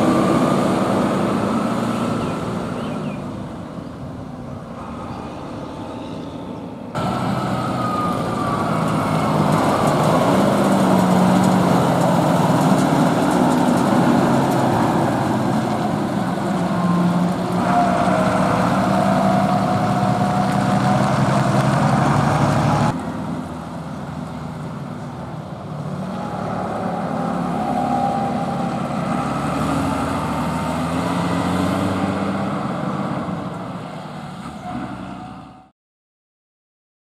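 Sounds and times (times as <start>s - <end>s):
tractor diesel engine with whine: 0.0s - 35.7s.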